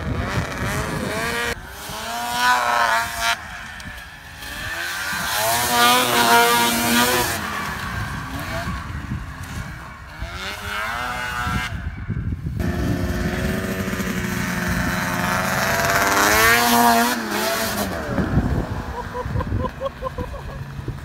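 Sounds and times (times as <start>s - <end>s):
snowmobile engine high revs: 0.0s - 21.0s.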